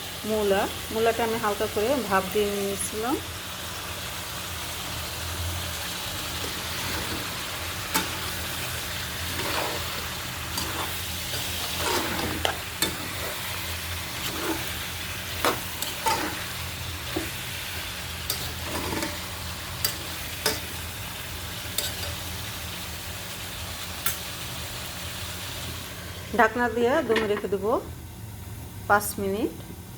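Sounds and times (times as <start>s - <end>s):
vegetables sizzling in oil: 0.0s - 29.9s.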